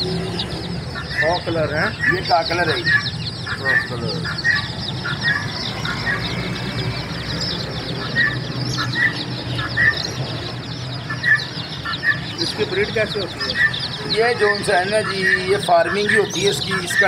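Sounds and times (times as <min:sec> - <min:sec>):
baby chicks peeping: 0:00.0 - 0:17.0.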